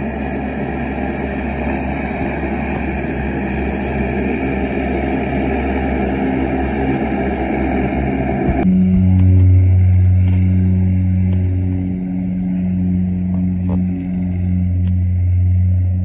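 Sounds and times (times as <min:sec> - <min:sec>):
propeller drone of taxiing airliner: 0:00.0 - 0:16.0.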